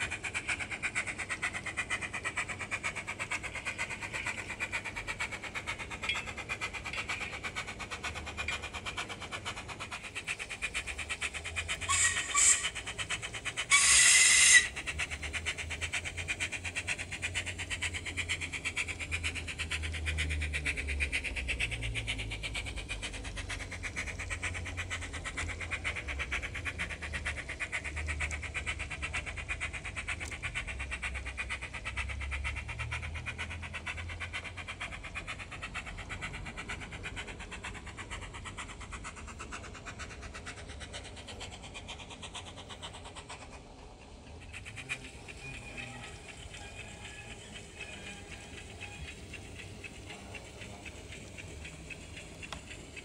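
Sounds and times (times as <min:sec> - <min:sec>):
model steam locomotive chuffing: 0:00.0 - 0:53.0
model train rumbling on track: 0:00.0 - 0:53.0.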